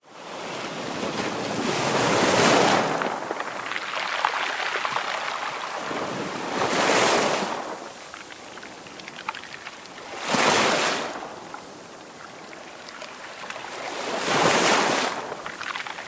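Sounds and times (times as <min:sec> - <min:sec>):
ocean waves crashing: 0:00.2 - 0:16.0.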